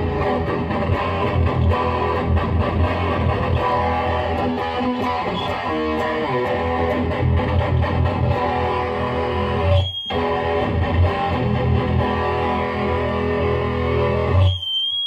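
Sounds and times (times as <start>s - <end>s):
distorted electric guitar riffing: 0.0s - 14.9s.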